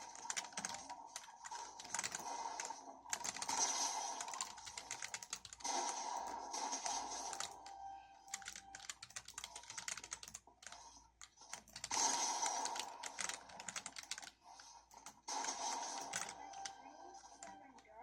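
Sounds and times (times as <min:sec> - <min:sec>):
mechanical keyboard typing: 0:00.0 - 0:06.4, 0:07.1 - 0:14.3, 0:14.9 - 0:16.8.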